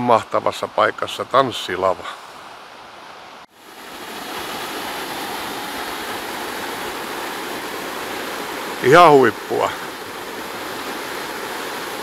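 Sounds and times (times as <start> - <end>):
river rapids rushing: 1.0 - 12.0.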